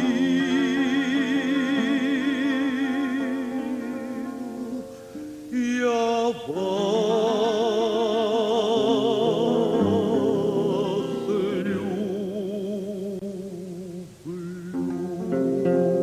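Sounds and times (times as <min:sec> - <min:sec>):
woman singing with vibrato: 0:00.0 - 0:15.6.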